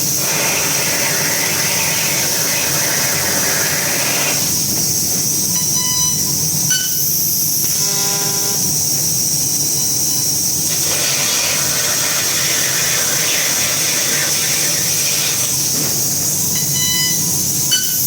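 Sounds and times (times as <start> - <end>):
laser cutter hissing: 0.0 - 18.0.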